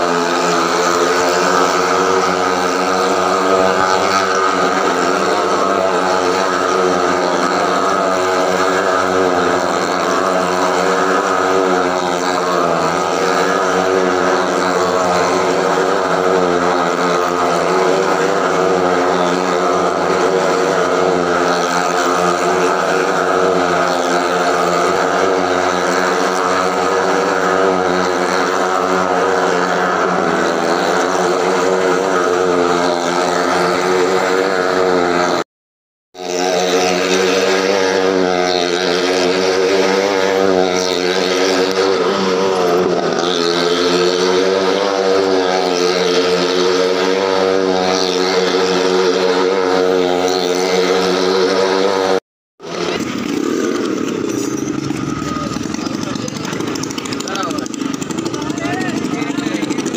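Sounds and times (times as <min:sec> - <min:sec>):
motorcycle engine at high revs: 0:00.0 - 0:35.5, 0:36.1 - 0:59.9.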